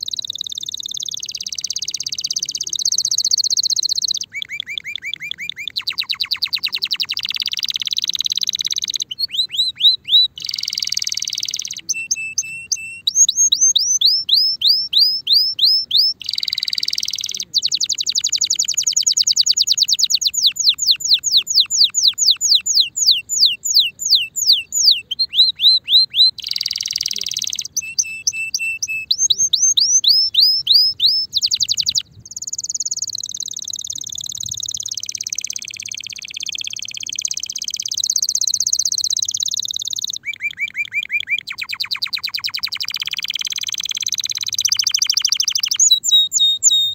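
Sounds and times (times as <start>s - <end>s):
canary singing: 0.0s - 46.9s.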